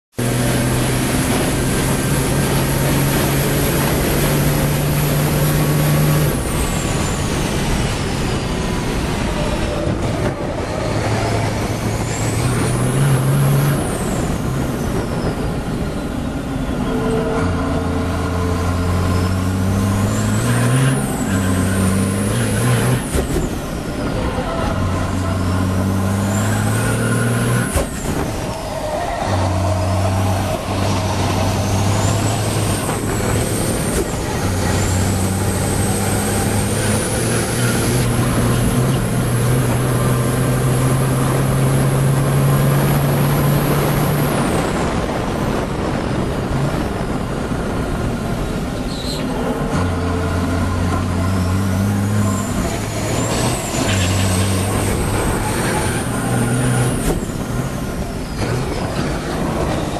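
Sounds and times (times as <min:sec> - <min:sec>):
truck engine revving with gear changes: 0:00.1 - 0:59.9.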